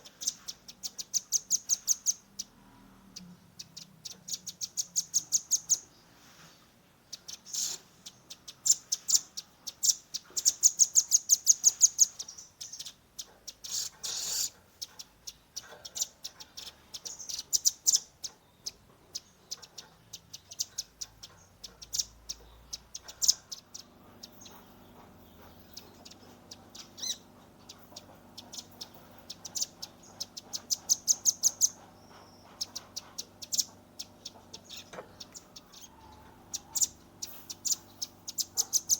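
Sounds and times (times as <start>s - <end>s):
faint steady low hum: 0.0s - 38.9s.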